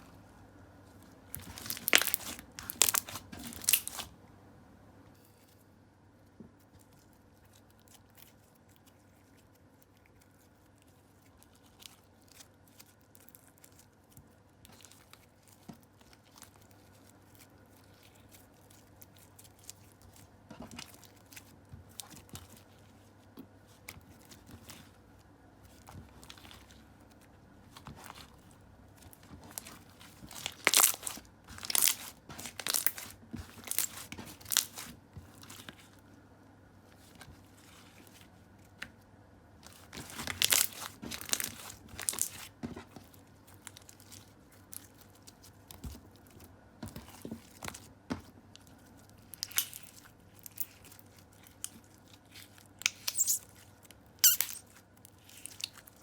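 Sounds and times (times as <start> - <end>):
slime crackling and squelching: 0.8 - 4.2, 6.5 - 36.2, 36.8 - 56.0.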